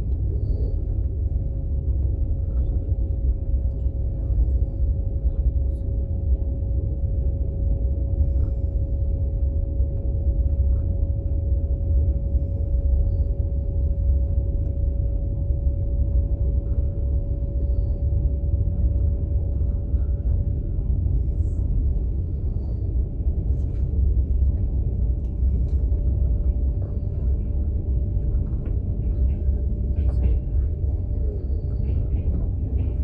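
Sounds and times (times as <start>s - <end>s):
train rumble from inside carriage: 0.0s - 33.0s.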